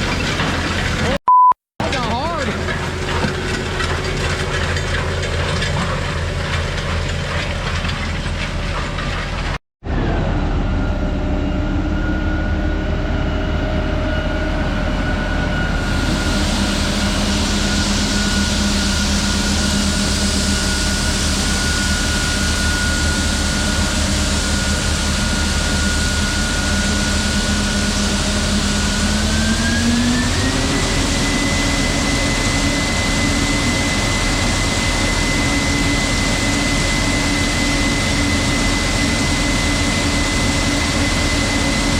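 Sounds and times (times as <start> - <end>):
heavy farm machinery running: 0.0 - 1.2, 1.8 - 41.9.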